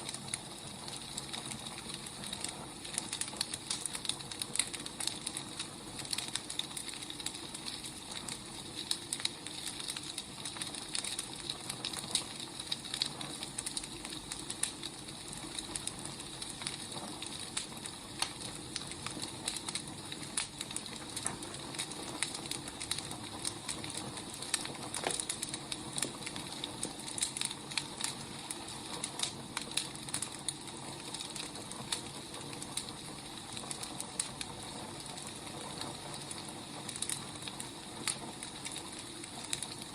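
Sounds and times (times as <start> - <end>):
soft fire hiss: 0.0 - 39.9
wood fire crackling: 0.0 - 39.9.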